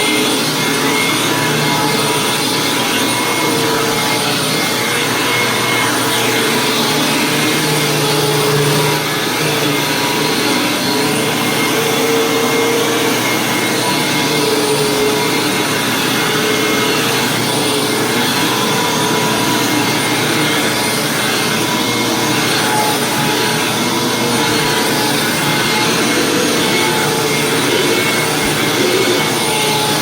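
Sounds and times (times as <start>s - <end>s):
upright vacuum running on carpet: 0.0s - 30.0s.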